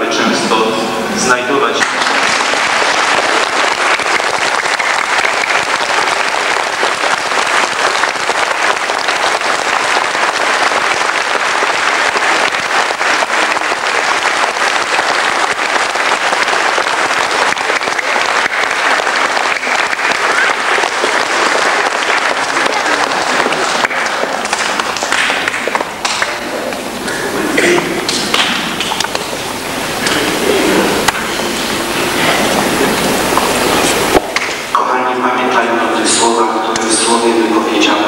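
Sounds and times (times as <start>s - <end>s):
crowd applauding: 1.6s - 34.9s.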